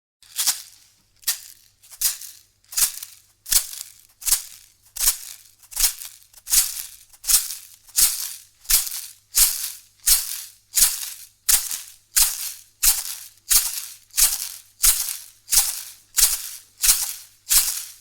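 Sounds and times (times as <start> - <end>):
hand rattle shaken: 0.2 - 18.0.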